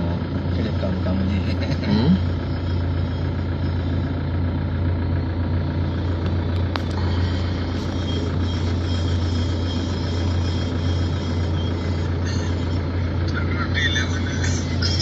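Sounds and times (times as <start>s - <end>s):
heavy diesel engines droning: 0.0s - 15.0s.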